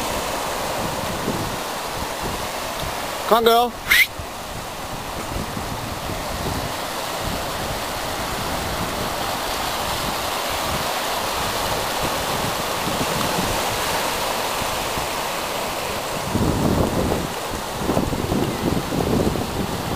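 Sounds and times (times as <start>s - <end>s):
small waves breaking: 0.0s - 19.9s
wind buffeting microphone: 0.0s - 19.9s.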